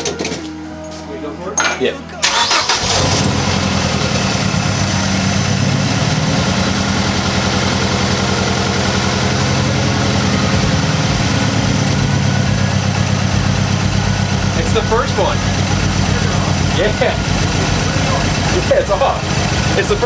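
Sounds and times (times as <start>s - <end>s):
car engine idling with misfire: 2.2s - 20.0s.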